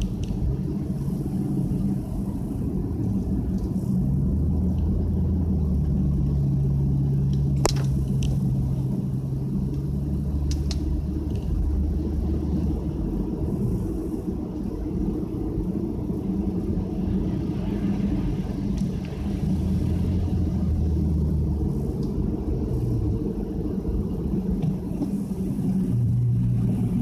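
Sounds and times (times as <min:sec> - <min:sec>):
car cabin engine drone: 0:00.0 - 0:27.0.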